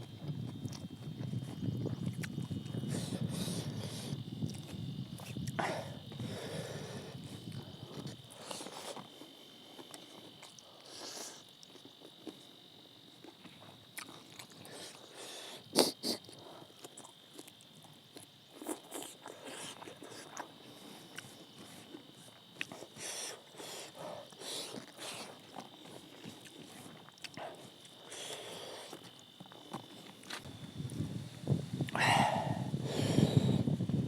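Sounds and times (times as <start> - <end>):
chewing and biting: 0.0 - 6.2, 7.4 - 30.5.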